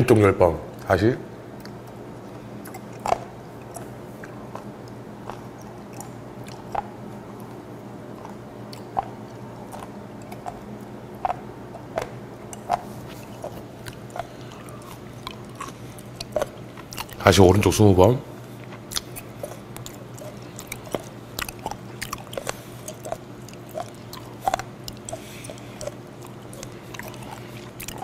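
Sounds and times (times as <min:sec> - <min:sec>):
steady low hum: 0:00.0 - 0:28.0
chewing tough cartilage: 0:01.6 - 0:17.7, 0:18.3 - 0:28.0.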